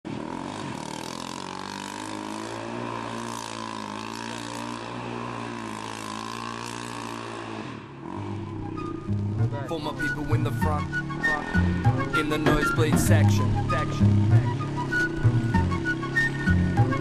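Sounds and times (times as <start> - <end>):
atv engine at high revs: 0.0 - 17.0
wheels spinning in dirt: 0.1 - 9.4, 10.0 - 17.0.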